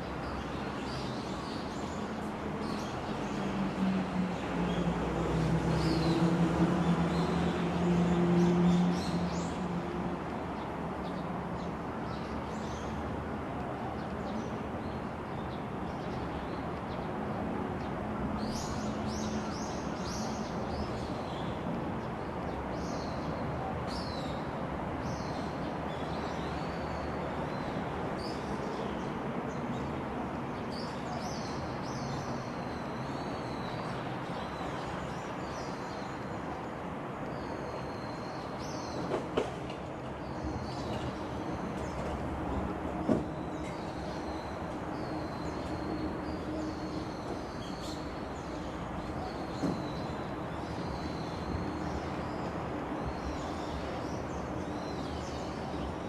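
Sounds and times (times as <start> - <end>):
outdoor background noise: 0.0 - 56.0.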